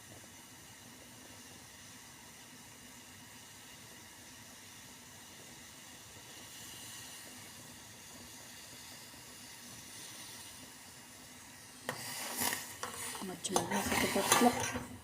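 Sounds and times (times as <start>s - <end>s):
pot simmering on gas burner: 0.0s - 15.0s.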